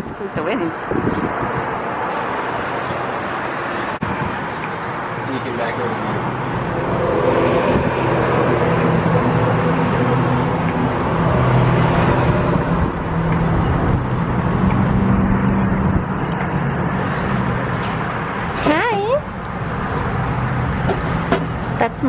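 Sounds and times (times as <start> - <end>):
road traffic noise: 0.0 - 22.0
vehicle engine humming: 0.0 - 22.0.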